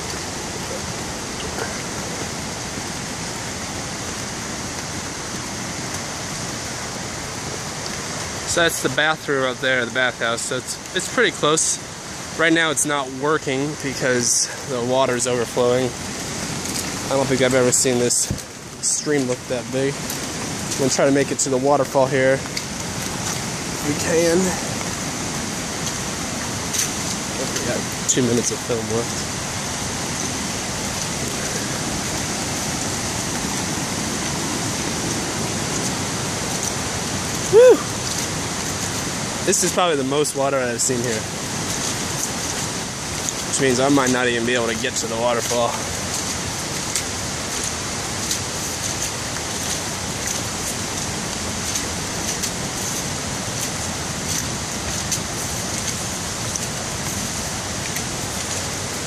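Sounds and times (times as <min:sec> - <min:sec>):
heavy rain on foliage: 0:00.0 - 0:59.0
raindrops tapping: 0:00.0 - 0:59.0
stream water rushing: 0:00.0 - 0:59.0.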